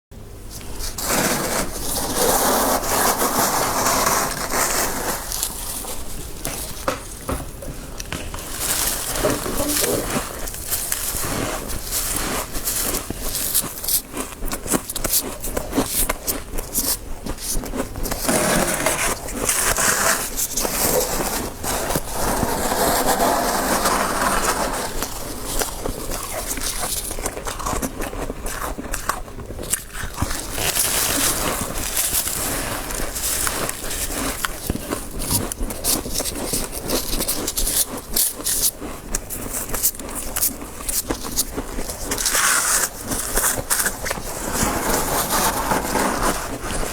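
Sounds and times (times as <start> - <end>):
frost crunching and scraping: 0.5 - 46.9.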